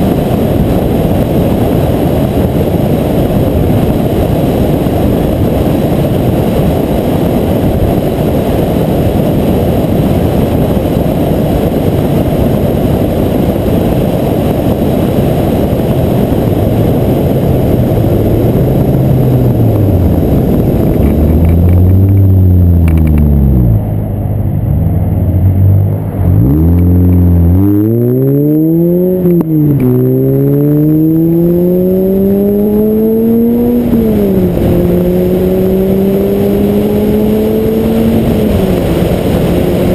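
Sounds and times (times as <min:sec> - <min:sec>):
car engine accelerating: 0:00.0 - 0:39.9
wind rumble on microphone: 0:00.0 - 0:39.9.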